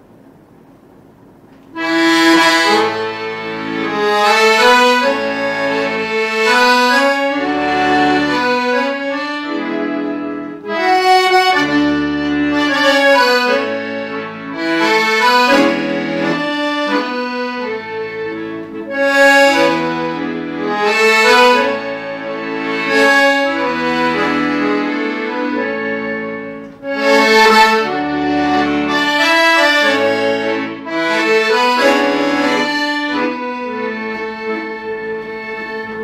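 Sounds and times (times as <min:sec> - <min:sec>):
accordion music: 0:01.6 - 0:36.0.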